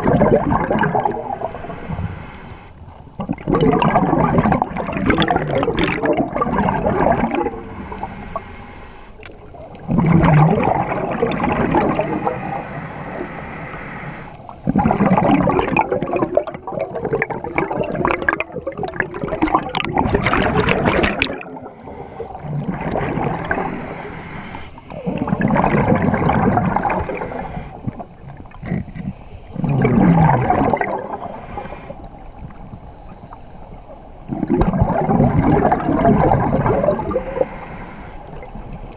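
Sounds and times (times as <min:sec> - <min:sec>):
diver exhaling bubbles: 0:00.0 - 0:02.5, 0:03.1 - 0:32.2, 0:34.2 - 0:38.7
diver inhaling through regulator: 0:00.0 - 0:03.1, 0:06.1 - 0:16.6, 0:19.3 - 0:38.8.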